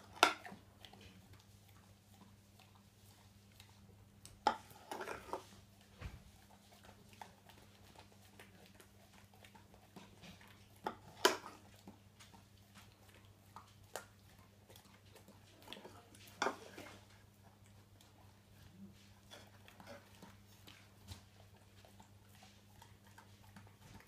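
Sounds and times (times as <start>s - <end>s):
dog licking and mouth smacking: 0.0s - 24.0s
low electrical hum: 0.0s - 24.0s.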